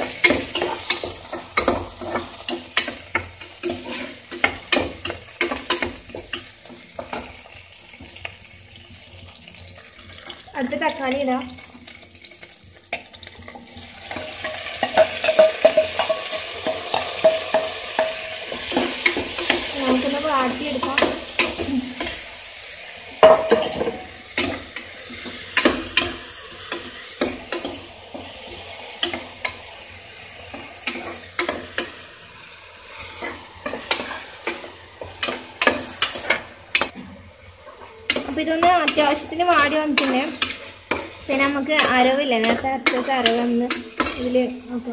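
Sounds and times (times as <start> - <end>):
tomatoes sizzling in hot oil: 0.0 - 44.9.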